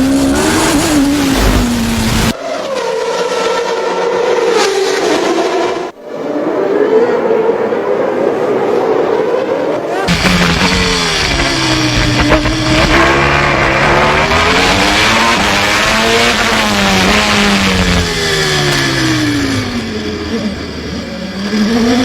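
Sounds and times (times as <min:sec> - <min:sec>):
racing car engine at high revs: 0:00.0 - 0:06.0, 0:09.1 - 0:22.0.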